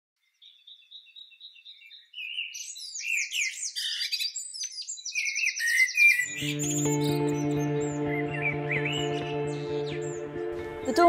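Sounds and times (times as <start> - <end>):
high bird chirps: 0.2 - 11.0
songbirds singing: 0.2 - 11.0
rapid bird trill: 0.5 - 10.2.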